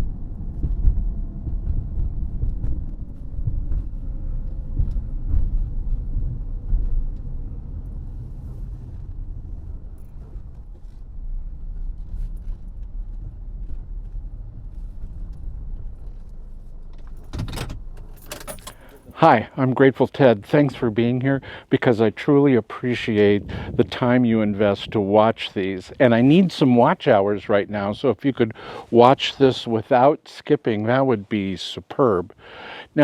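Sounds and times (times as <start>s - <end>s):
car road and engine rumble: 0.0s - 27.6s.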